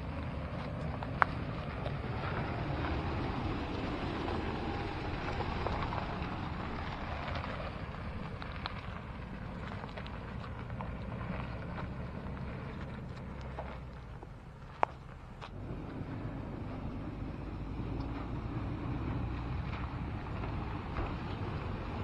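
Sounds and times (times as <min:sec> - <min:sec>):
engine and tyre rumble: 0:00.0 - 0:22.0
stones crackling under tyres: 0:00.0 - 0:22.0.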